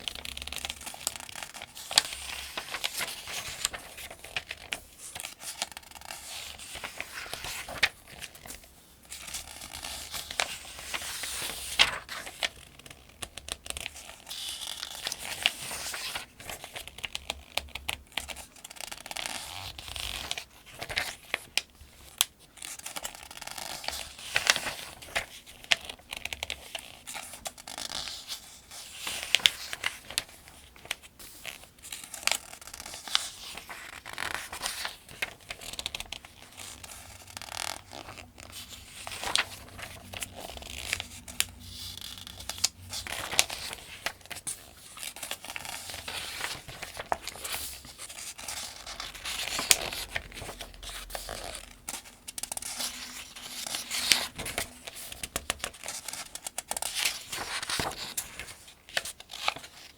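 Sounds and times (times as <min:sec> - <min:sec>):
paper pages turning: 0:00.0 - 0:59.9.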